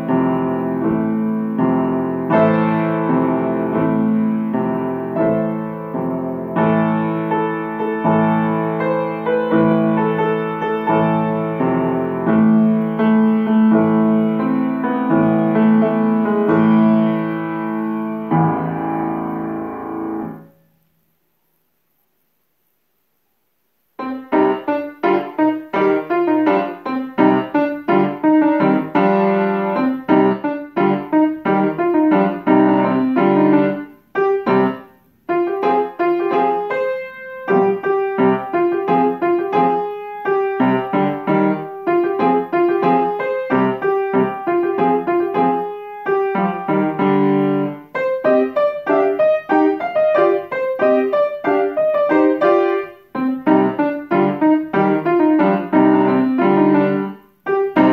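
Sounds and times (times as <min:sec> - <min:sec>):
solo piano piece: 0:00.0 - 0:22.3, 0:23.5 - 0:57.9.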